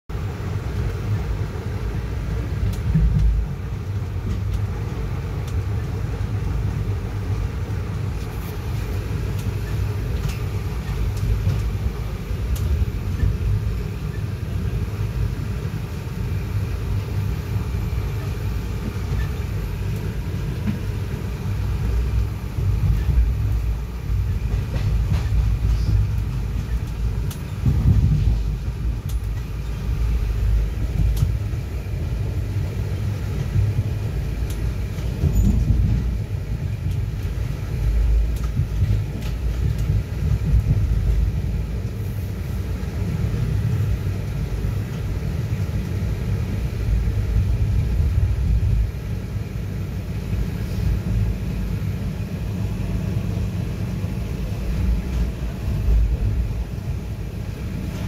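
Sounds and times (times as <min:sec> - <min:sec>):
train wheels rumbling on track: 0:00.1 - 0:58.0.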